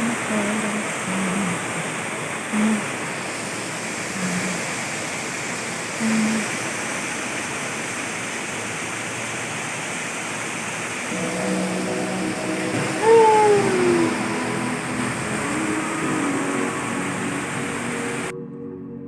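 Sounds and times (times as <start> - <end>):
heavy rain pouring: 0.0 - 18.3
low hums: 0.0 - 18.3.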